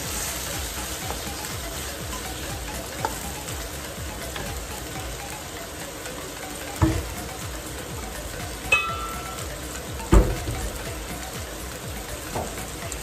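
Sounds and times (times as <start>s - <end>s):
meat and onions sizzling in wok: 0.0s - 13.0s.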